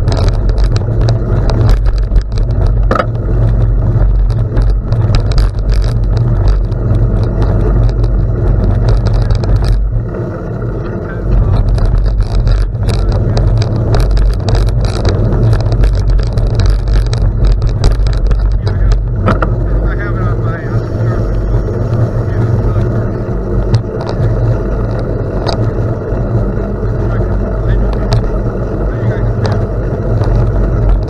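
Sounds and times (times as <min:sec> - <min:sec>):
bike clicks and rattles: 0:00.0 - 0:31.0
tyres crackling over gravel: 0:00.0 - 0:31.0
wind buffeting microphone: 0:00.0 - 0:31.0.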